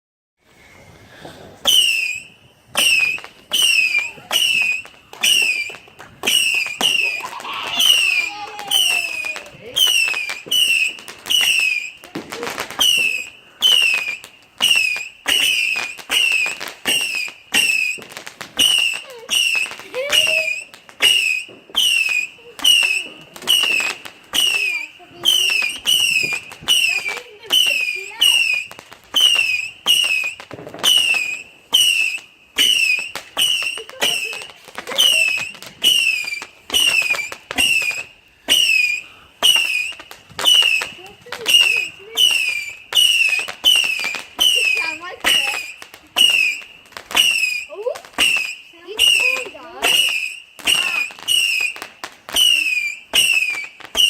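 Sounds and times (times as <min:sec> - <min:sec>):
firework whistles: 0:00.4 - 0:54.0
firework crackling pops: 0:00.5 - 0:54.0.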